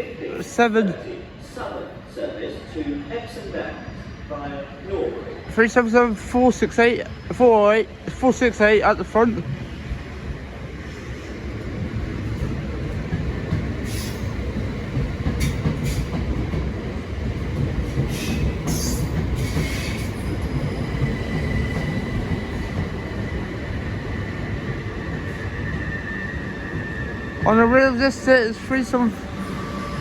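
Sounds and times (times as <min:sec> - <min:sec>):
train wheels rumbling: 0:04.2 - 0:30.0.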